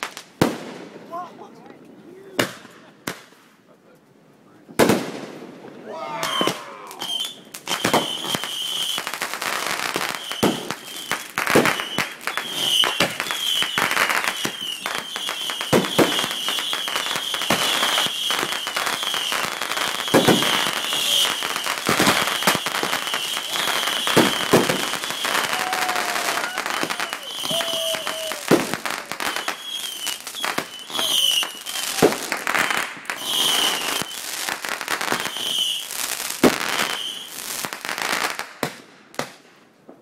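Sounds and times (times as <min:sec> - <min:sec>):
firework crackle: 0:00.0 - 0:01.2, 0:04.8 - 0:39.5
firework bangs: 0:04.7 - 0:39.5.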